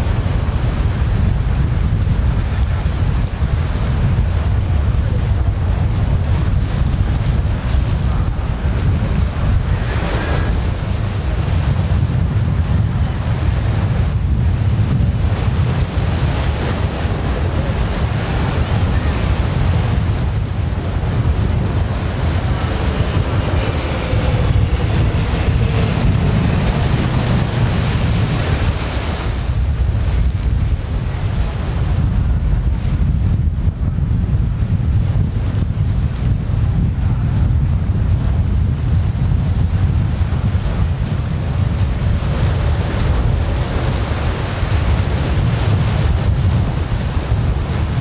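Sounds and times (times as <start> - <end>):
light plane engine and propeller: 0.0 - 48.0
wind buffeting microphone: 0.0 - 48.0.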